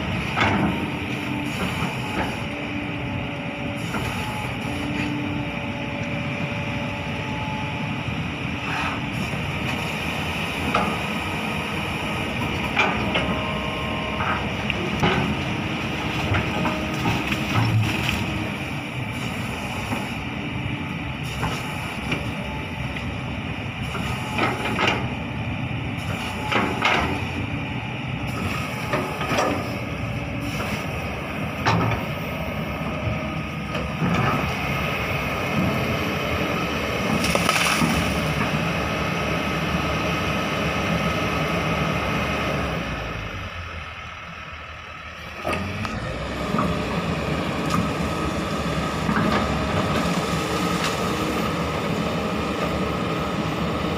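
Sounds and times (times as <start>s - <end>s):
excavator diesel engine under load: 0.0s - 53.9s.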